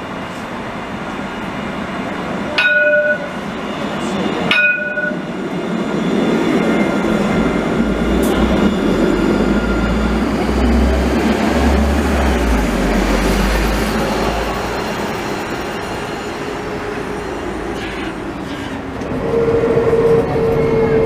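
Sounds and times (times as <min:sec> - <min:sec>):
tram rumbling and rolling: 0:00.0 - 0:21.0
tram chime tones: 0:01.3 - 0:21.0.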